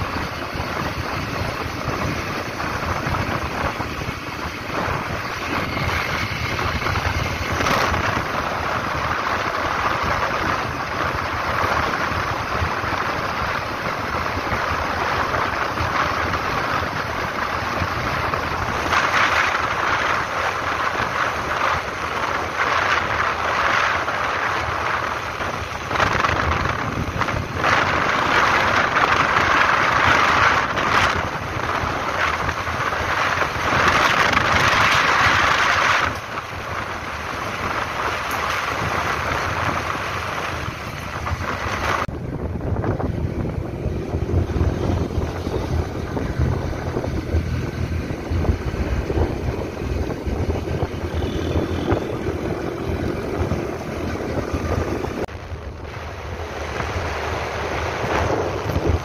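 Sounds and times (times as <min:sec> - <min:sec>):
motorcycle engine: 0:00.0 - 0:59.0
road rumble: 0:00.0 - 0:59.0
wind rushing over microphone: 0:00.0 - 0:59.0.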